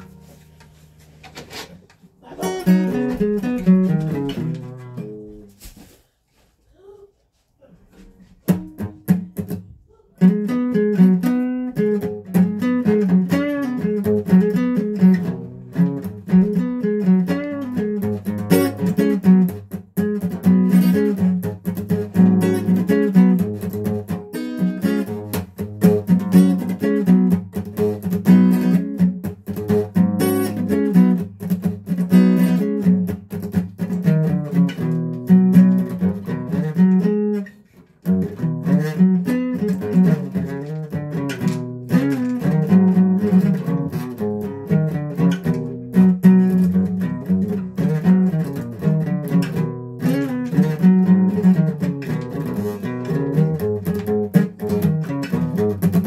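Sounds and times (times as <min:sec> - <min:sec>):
guitar playing notes and chords: 0:00.0 - 0:01.0, 0:02.2 - 0:05.5, 0:08.5 - 0:56.0.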